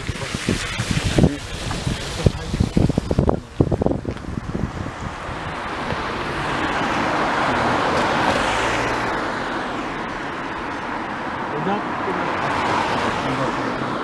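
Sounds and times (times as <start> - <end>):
road vehicle passing by: 0.3 - 14.0.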